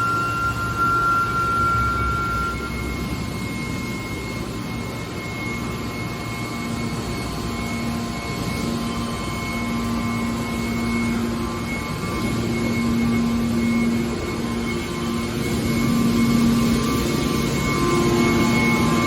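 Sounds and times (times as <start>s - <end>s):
hydraulic baler drone: 0.0s - 19.0s.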